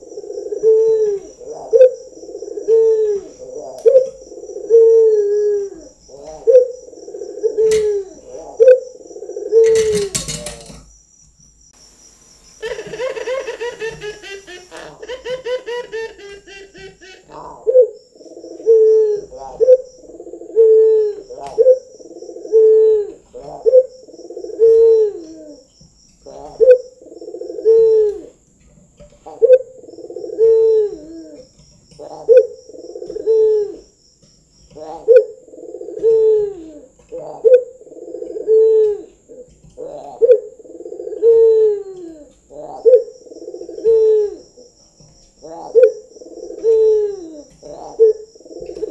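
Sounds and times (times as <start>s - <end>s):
dove cooing: 0.0s - 10.8s, 12.6s - 28.4s, 29.1s - 33.9s, 34.7s - 44.7s, 45.4s - 48.9s.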